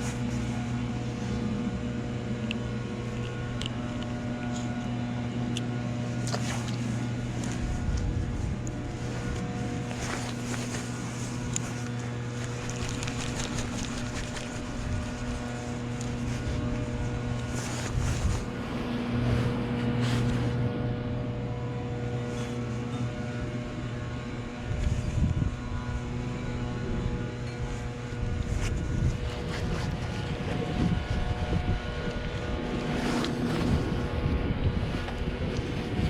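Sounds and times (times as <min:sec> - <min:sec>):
low engine hum: 0:00.0 - 0:36.0.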